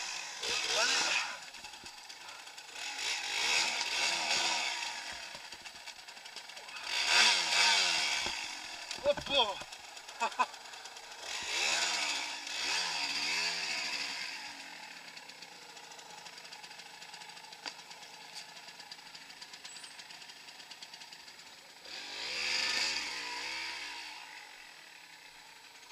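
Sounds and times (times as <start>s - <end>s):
dirt bike engine revving: 0.0s - 21.1s, 21.7s - 25.6s.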